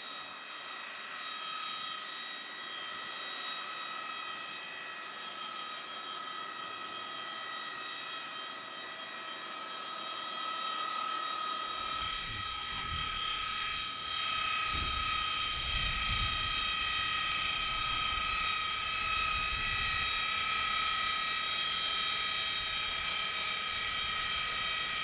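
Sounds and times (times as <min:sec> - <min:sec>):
jet turbine whine: 0:00.0 - 0:25.0.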